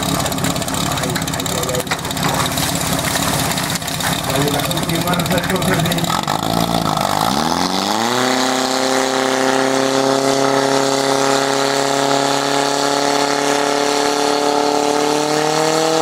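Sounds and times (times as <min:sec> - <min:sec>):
pump engine revving: 0:00.0 - 0:16.0.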